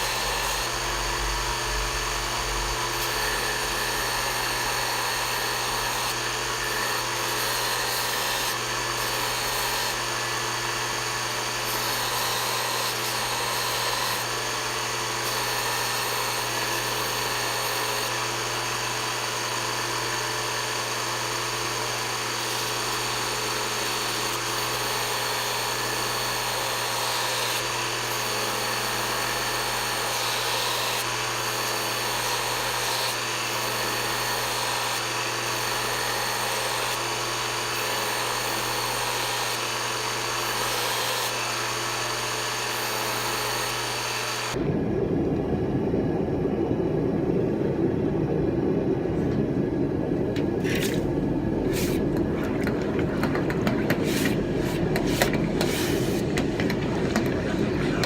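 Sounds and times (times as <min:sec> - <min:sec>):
power tool whining: 0:00.0 - 0:44.6, 0:50.2 - 0:58.0.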